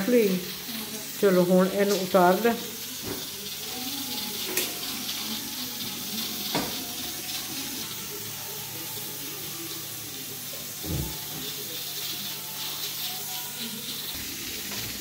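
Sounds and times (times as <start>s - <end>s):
water poured into a sink: 0.0s - 15.0s.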